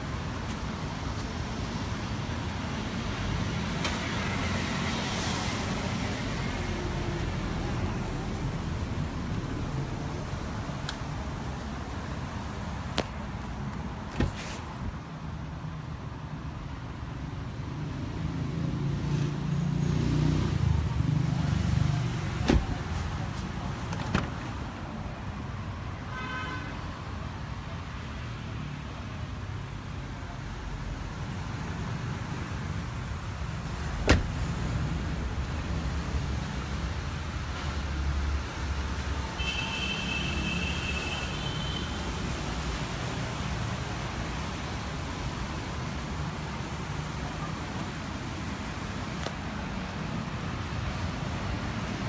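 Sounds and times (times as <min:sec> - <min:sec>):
low rumble of vehicles: 0:00.0 - 0:52.0.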